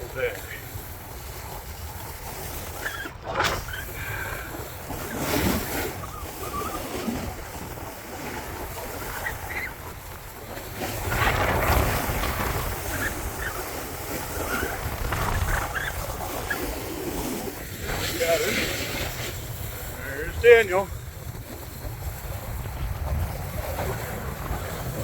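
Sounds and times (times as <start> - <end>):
skis scraping on snow: 0.0 - 25.0
wind rushing over microphone: 0.0 - 25.0.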